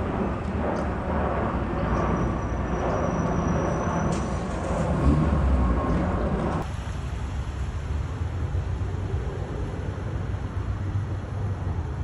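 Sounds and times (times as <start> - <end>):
jet airliner rumble: 0.0 - 12.0.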